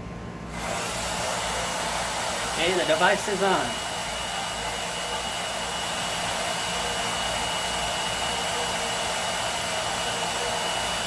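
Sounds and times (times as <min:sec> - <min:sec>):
hair dryer blowing air: 0:00.0 - 0:11.0
motor high whine: 0:00.0 - 0:11.0.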